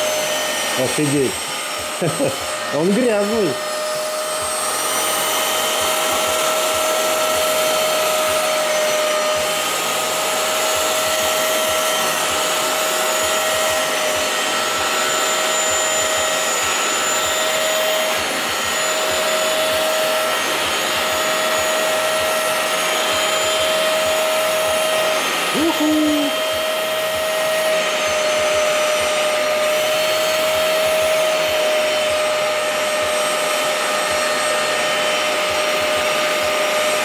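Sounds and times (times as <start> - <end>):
carpet cleaner motor whine: 0.0 - 37.0.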